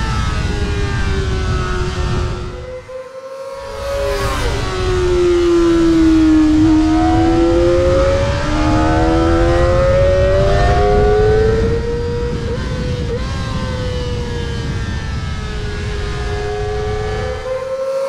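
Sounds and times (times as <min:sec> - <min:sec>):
high-revving motorcycle engine: 0:00.0 - 0:18.0.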